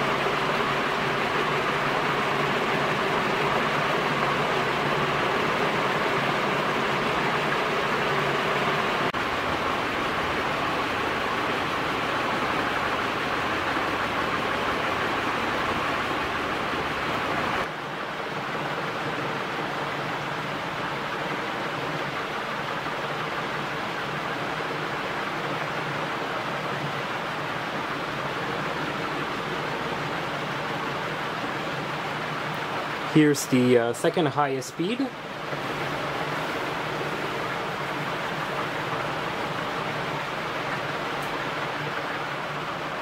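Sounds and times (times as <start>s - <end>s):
ceiling fan rush of air: 0.0s - 43.0s
faint motor hum: 0.0s - 43.0s.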